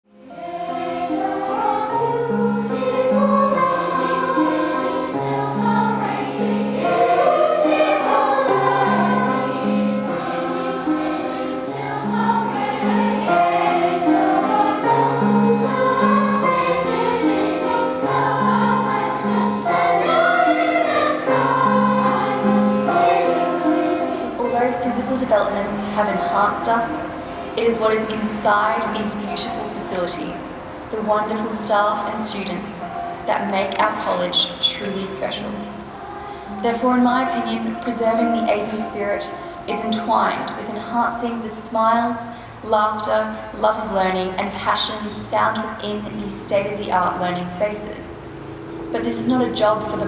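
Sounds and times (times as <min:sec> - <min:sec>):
choir singing: 0:00.1 - 0:42.3, 0:45.6 - 0:50.0.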